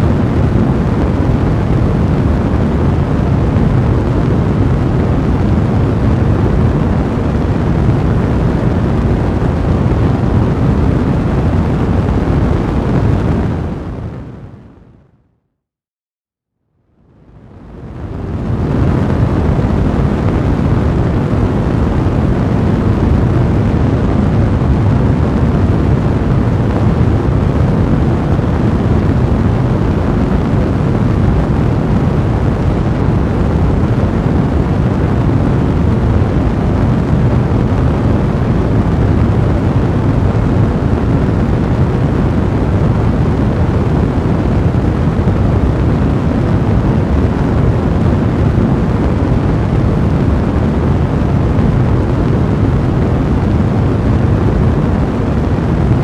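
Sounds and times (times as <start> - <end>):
fire burning with low rumble: 0.0 - 15.2, 16.8 - 56.0.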